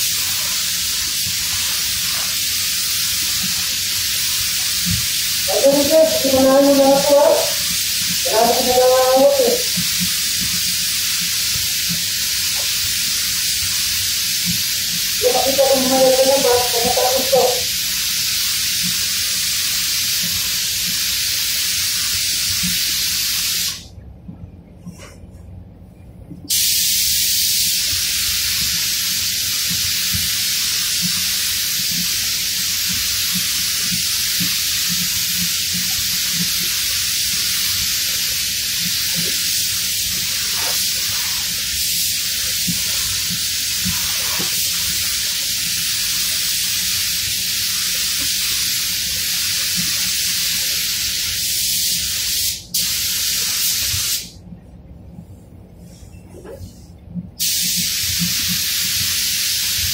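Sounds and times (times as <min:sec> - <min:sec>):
paint spray gun hissing: 0:00.0 - 0:23.8, 0:26.5 - 0:54.3, 0:57.4 - 0:59.9.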